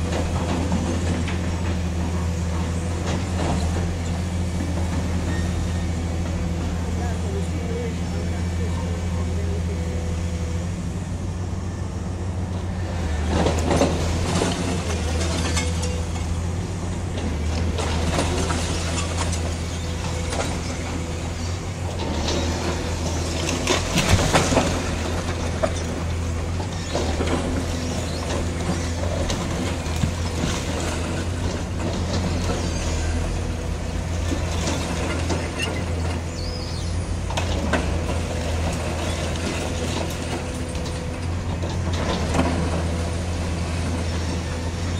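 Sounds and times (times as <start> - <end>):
excavator engine under load: 0.0 - 44.9.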